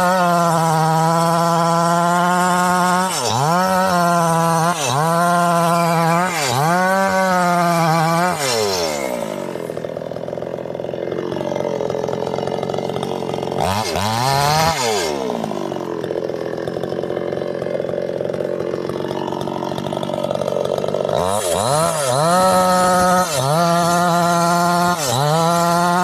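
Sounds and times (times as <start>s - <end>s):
chainsaw cutting into wood: 0.0s - 26.0s
chainsaw idling and revving: 0.0s - 26.0s.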